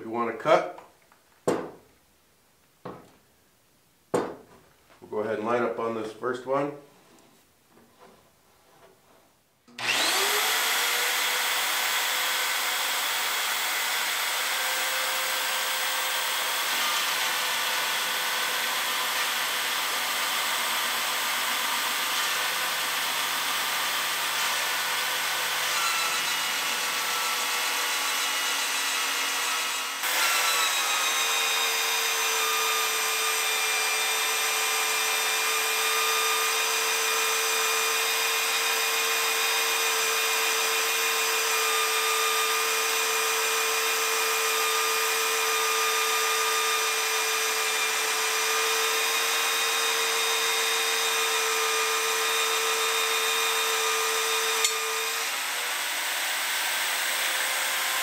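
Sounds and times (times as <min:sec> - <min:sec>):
magnetic drill boring steel: 0:09.8 - 0:58.0.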